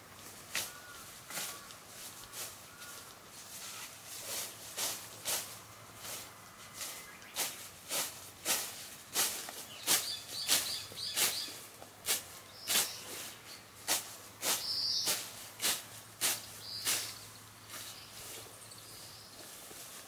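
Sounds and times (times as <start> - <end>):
sickle swishing through weeds: 0.0 - 20.0.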